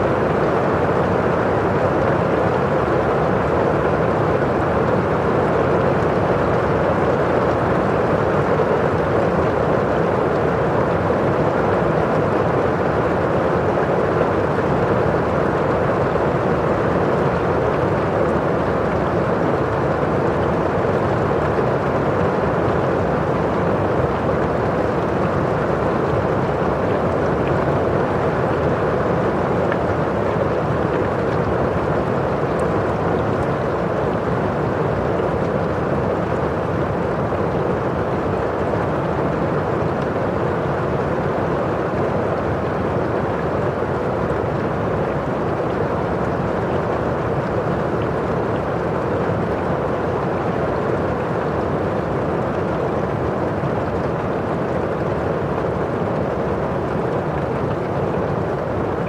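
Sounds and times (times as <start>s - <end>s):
rain on a windowpane: 0.0s - 59.0s
rain rushing outside: 0.0s - 59.0s.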